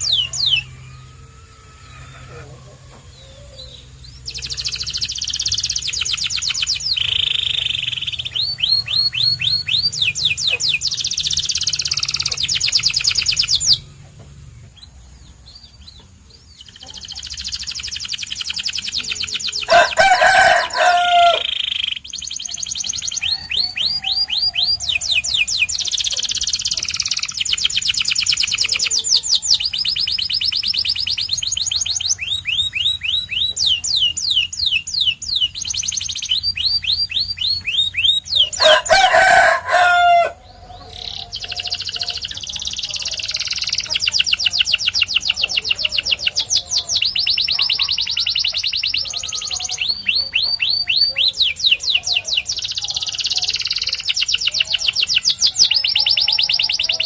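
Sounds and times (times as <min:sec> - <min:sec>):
loud lower-pitched bird call: 0:00.0 - 0:13.9, 0:16.6 - 0:57.0
canary singing fast trills: 0:00.0 - 0:57.0.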